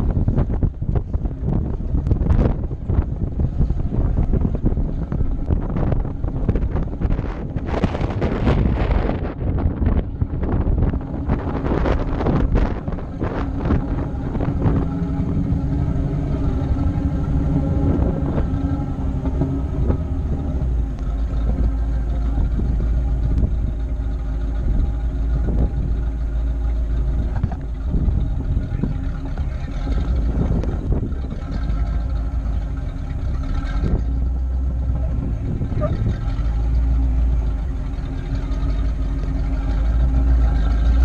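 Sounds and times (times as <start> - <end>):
car engine running: 0.0 - 41.0
wind rumble on microphone: 0.0 - 41.0.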